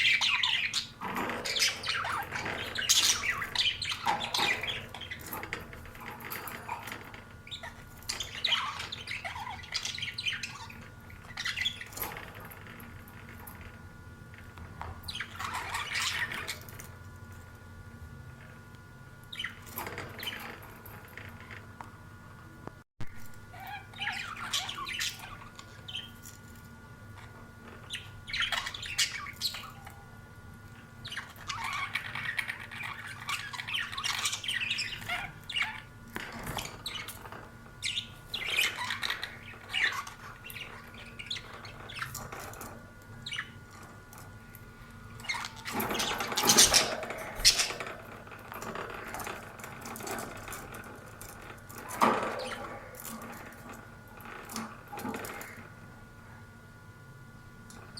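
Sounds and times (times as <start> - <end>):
budgerigars chirping and chattering: 0.0 - 13.7, 15.0 - 16.8, 19.3 - 21.3, 23.5 - 26.4, 27.7 - 30.0, 31.0 - 44.2, 45.2 - 55.7.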